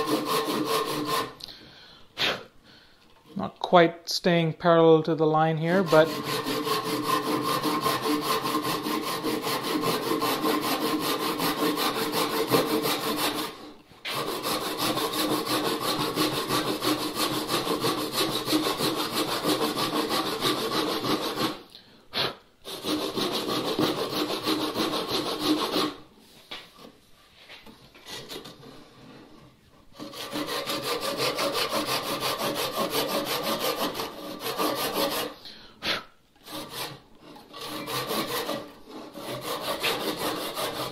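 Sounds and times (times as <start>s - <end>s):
hand saw rasping through wood: 0.0s - 1.4s, 5.6s - 26.1s, 28.0s - 40.9s.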